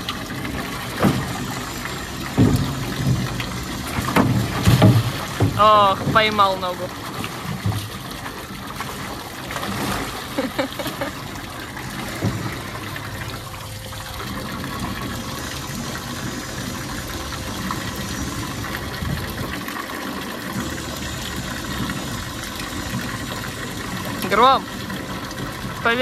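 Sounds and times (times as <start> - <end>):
hose water pouring into tub: 0.0 - 26.0.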